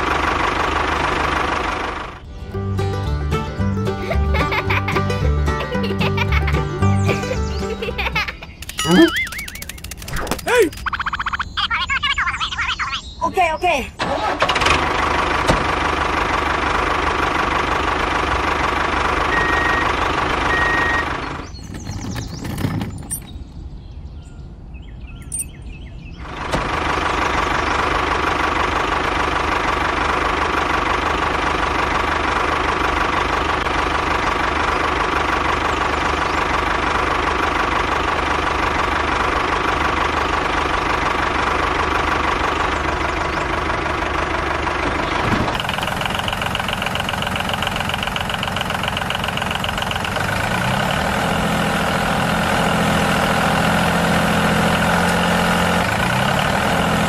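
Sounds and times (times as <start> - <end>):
small engine running: 0.0 - 2.2, 3.8 - 11.0, 14.0 - 23.3, 26.2 - 57.0.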